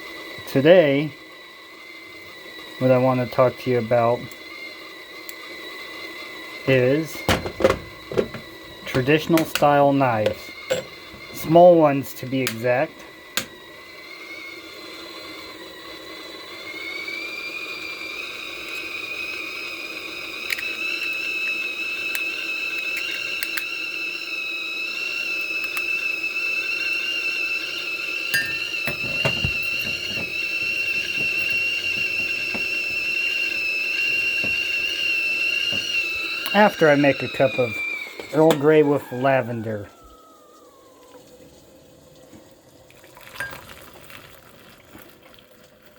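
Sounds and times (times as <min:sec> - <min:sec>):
kettle whistling: 0:00.0 - 0:45.9.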